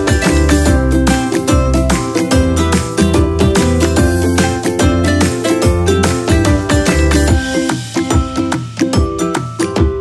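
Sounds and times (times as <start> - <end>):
plucked instrumental music with beat: 0.0 - 10.0.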